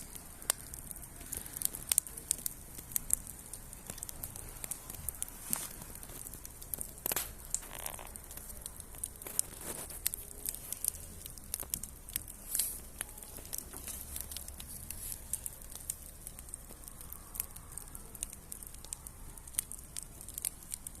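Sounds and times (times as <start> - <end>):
campfire wood crackling and popping: 0.0 - 21.0.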